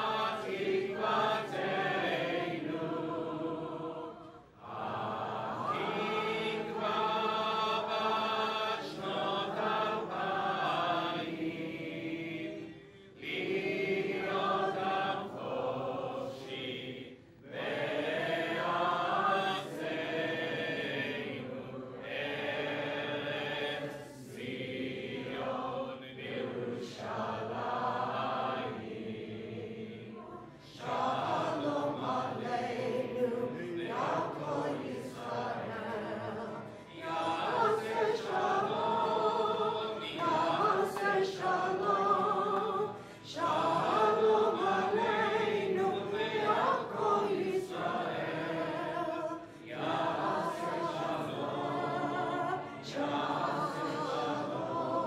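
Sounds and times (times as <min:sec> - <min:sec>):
slow chant-like singing: 0:00.0 - 0:55.0.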